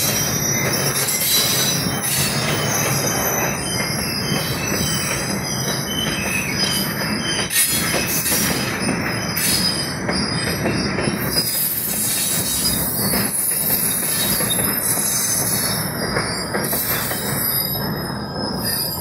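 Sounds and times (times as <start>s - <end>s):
high-pitched wheel squeal: 0.0s - 19.0s
train wheels rumbling on rail: 0.0s - 19.0s.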